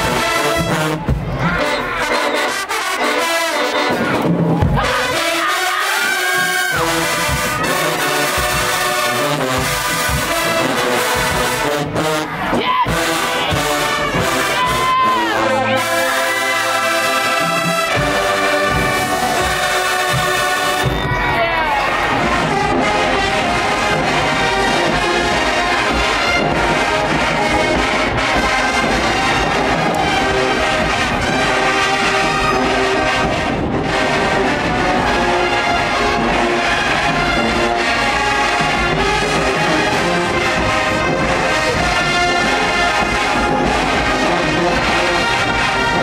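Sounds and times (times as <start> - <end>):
marching band playing: 0.0 - 46.0
trombones and trumpets: 0.0 - 46.0.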